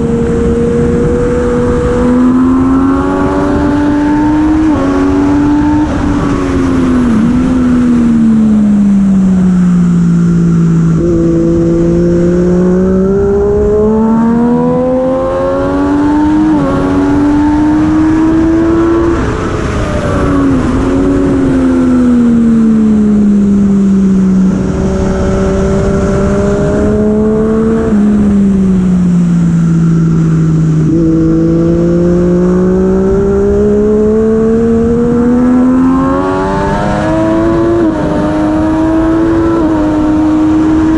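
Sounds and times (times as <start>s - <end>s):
superbike engine revving: 0.0s - 40.9s.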